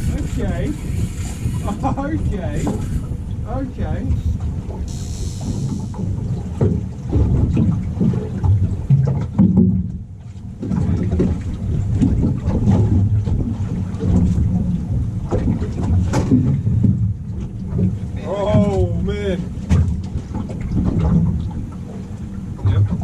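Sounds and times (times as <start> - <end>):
boat low rumble: 0.0 - 23.0.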